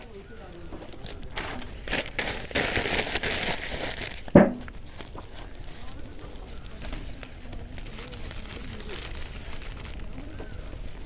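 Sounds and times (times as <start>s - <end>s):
dry fronds and paper burning: 0.0s - 11.0s
sharp pops and crackles: 0.0s - 11.0s.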